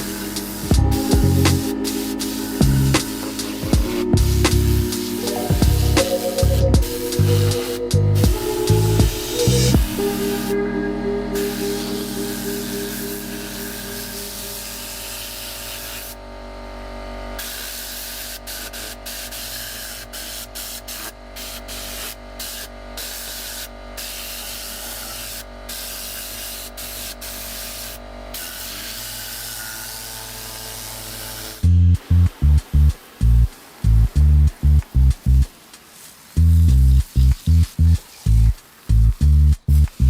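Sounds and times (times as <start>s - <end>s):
spray hissing: 0.0s - 10.6s, 11.4s - 16.2s, 17.4s - 40.0s.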